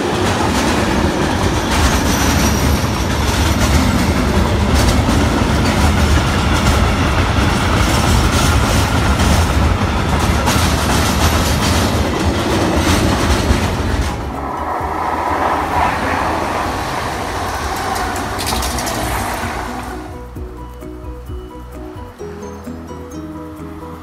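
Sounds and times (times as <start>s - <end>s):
wheels knocking over rail joints: 0.0s - 20.4s
freight train rolling rumble: 0.0s - 24.0s.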